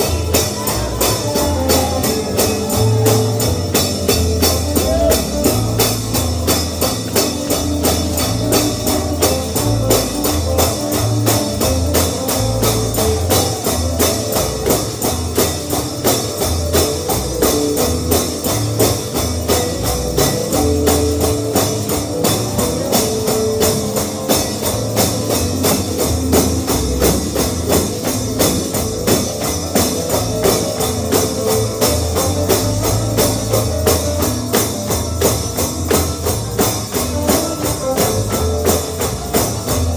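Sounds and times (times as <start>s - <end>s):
tambourine beat: 0.0s - 39.9s
up-tempo gospel instrumental: 0.0s - 39.9s.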